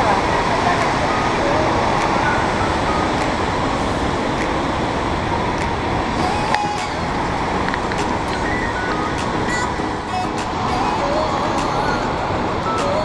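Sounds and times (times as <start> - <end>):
rushing river roar: 0.0 - 13.0.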